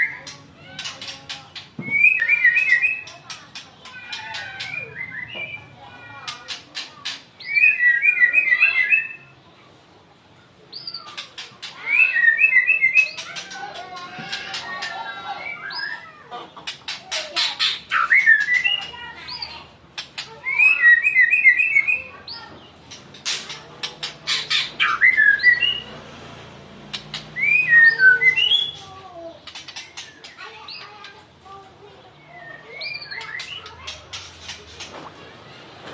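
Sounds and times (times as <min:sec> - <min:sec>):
songbird singing: 0:00.0 - 0:05.8, 0:07.3 - 0:09.4, 0:10.7 - 0:26.0, 0:26.8 - 0:35.1.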